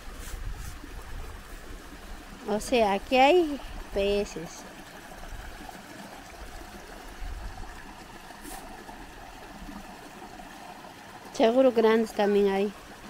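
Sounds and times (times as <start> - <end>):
stream trickling over stones: 0.0 - 13.0.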